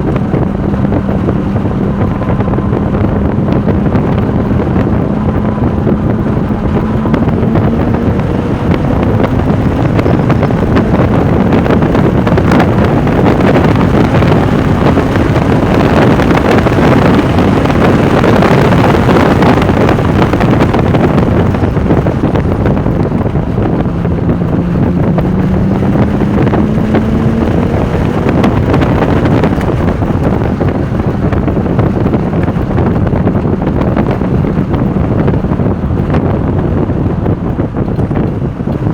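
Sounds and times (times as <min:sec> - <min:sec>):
car engine pulling at speed: 0:00.0 - 0:38.9
road noise: 0:00.0 - 0:38.9
wind noise on microphone: 0:00.0 - 0:38.9.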